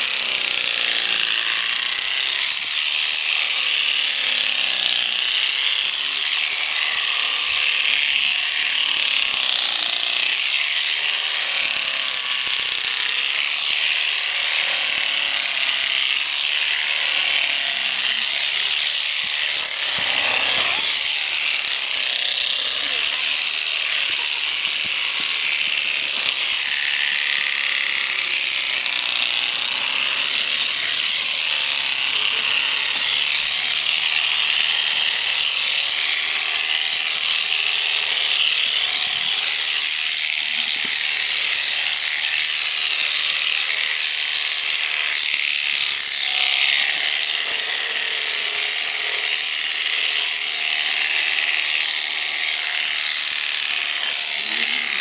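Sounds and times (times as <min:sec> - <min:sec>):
electric shears buzzing: 0:00.0 - 0:55.0.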